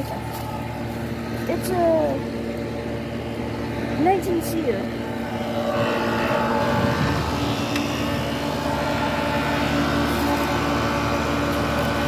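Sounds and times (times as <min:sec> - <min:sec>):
air conditioner units humming: 0:00.0 - 0:12.0
condenser fans rushing: 0:00.0 - 0:12.0.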